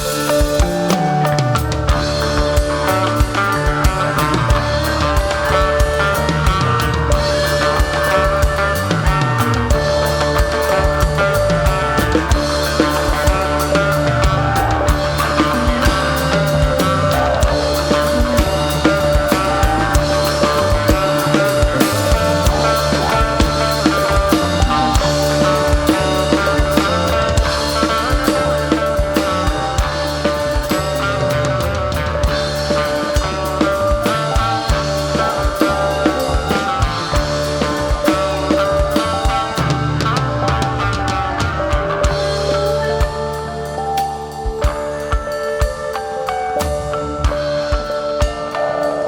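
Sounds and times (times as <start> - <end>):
drum kit beat: 0.0 - 49.0
live rock band playing: 0.0 - 49.0.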